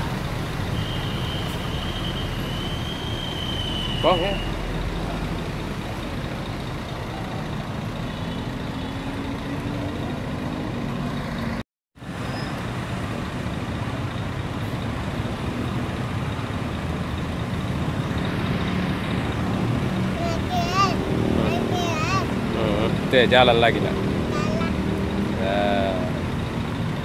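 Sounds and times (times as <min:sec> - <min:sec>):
bus engines running: 0:00.0 - 0:27.0.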